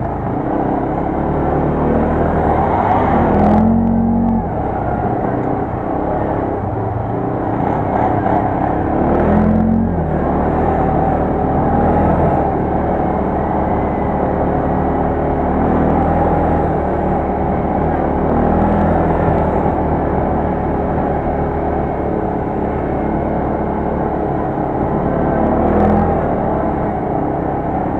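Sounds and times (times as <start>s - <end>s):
quad bike engine revving: 0.0s - 27.9s.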